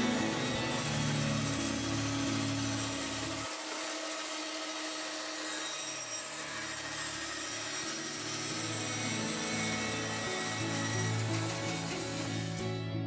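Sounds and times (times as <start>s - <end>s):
bandsaw cutting wood: 0.0s - 13.0s.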